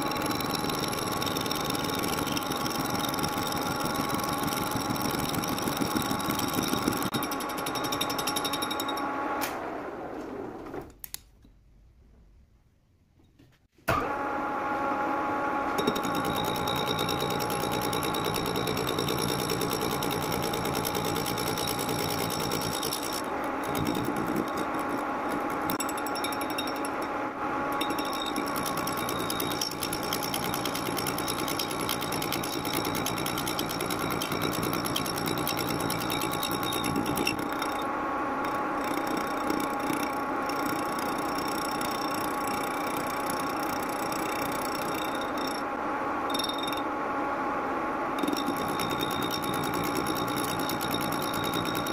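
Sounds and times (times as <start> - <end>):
metal lathe whining: 0.0 - 9.3, 15.8 - 46.9, 48.2 - 51.9.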